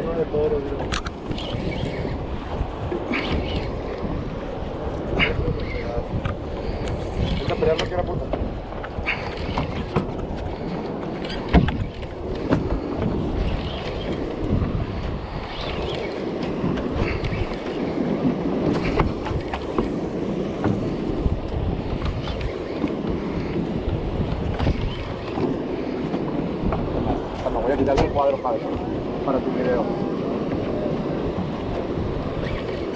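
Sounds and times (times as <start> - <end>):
water sloshing against boat: 0.0 - 32.9
wind buffeting microphone: 0.0 - 32.9.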